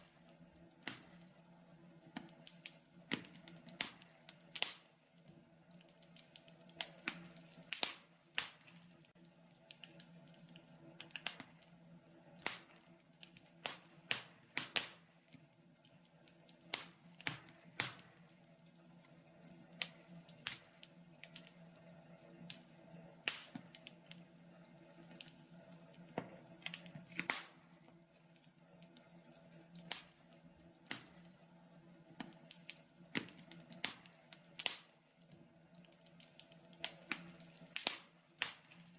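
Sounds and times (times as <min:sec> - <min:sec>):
faint steady hum: 0:00.0 - 0:38.9
wood fire crackling and popping: 0:00.0 - 0:38.9.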